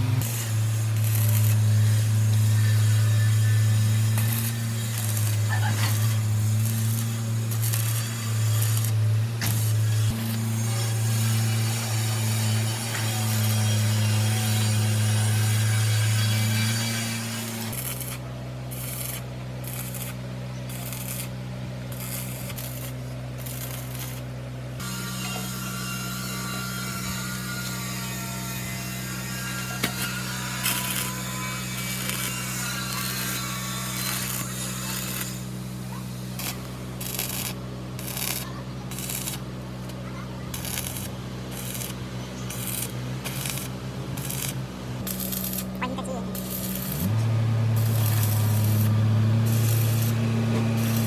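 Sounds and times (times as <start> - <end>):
machine hum: 0.0 - 51.0
metal tool scraping strokes: 0.1 - 21.3, 21.9 - 51.0.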